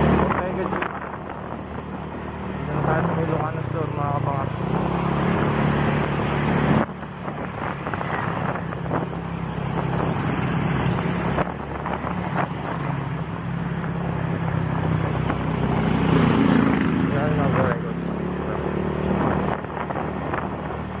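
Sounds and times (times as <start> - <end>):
wind noise on microphone: 0.0 - 3.6, 4.6 - 21.0.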